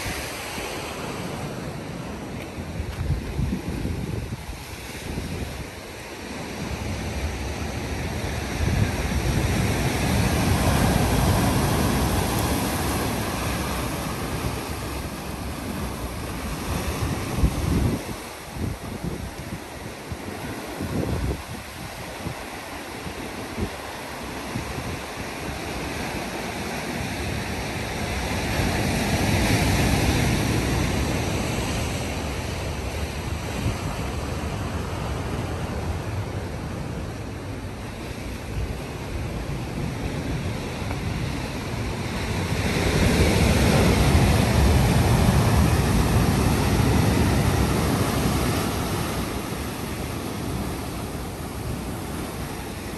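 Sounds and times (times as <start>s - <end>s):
ocean surf breaking: 0.0s - 52.9s
wind gusts on microphone: 0.0s - 52.9s.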